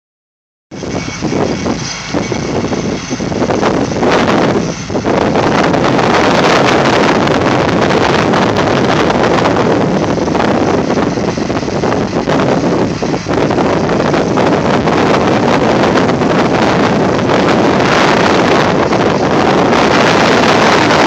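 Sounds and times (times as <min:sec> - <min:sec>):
combine harvester running: 0:00.7 - 0:21.0
wind buffeting microphone: 0:00.7 - 0:21.0.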